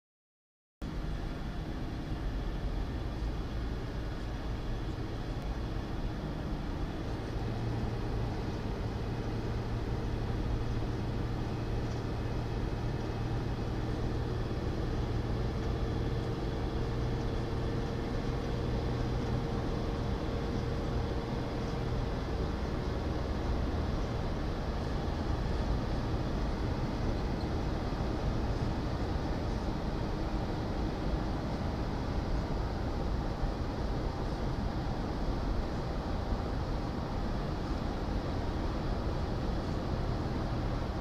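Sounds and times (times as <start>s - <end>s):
car road and engine noise: 0.8s - 41.0s.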